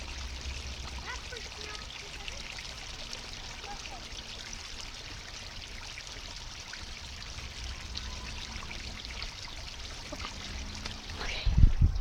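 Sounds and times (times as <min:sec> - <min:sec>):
creek water rushing: 0:00.0 - 0:11.6.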